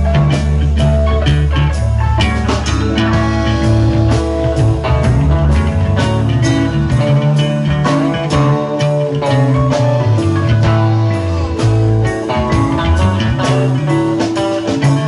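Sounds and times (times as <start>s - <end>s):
bass guitar: 0.0s - 15.0s
drum kit: 0.0s - 15.0s
electric guitars: 0.0s - 15.0s
keyboard: 0.0s - 15.0s.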